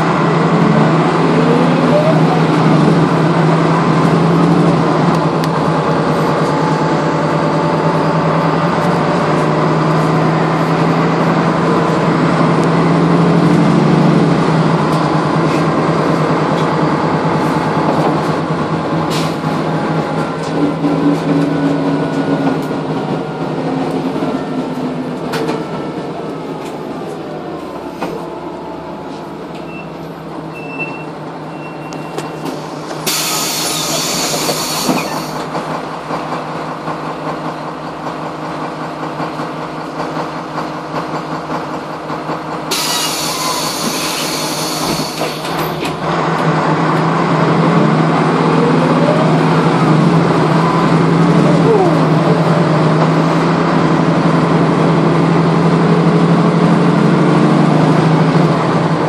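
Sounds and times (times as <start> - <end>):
bus engine and driveline whine: 0.0 - 59.0.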